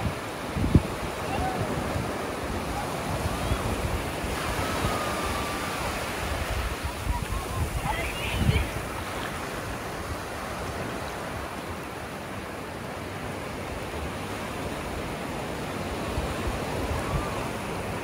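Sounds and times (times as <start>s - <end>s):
ocean surf on beach: 0.0s - 18.0s.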